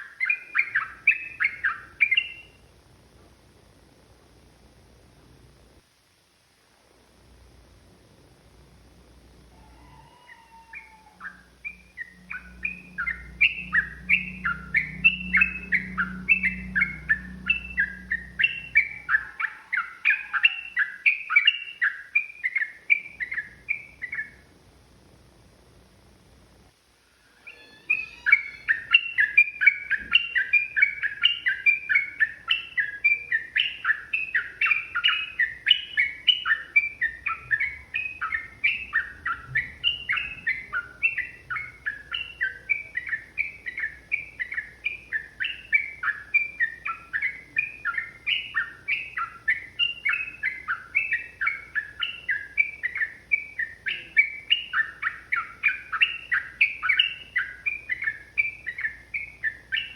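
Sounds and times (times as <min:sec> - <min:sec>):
bird chattering song: 0:00.0 - 0:02.7, 0:09.5 - 0:24.5, 0:27.4 - 0:59.9.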